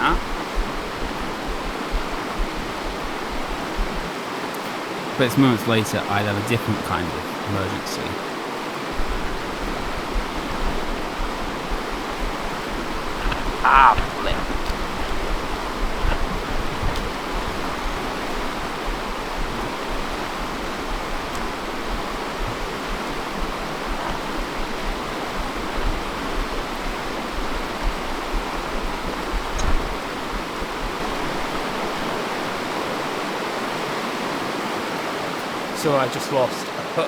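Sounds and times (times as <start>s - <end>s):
river water rushing over rocks: 0.0s - 37.0s.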